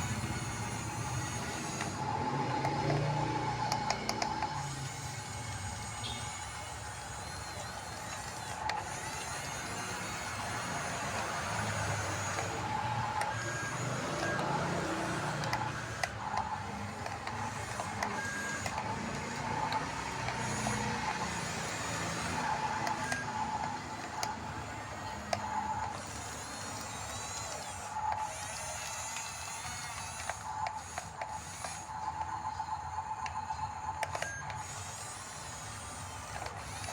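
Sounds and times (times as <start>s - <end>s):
electric motors and gearboxes whirring: 0.0s - 36.9s
clicks: 0.1s - 4.9s, 7.5s - 36.9s.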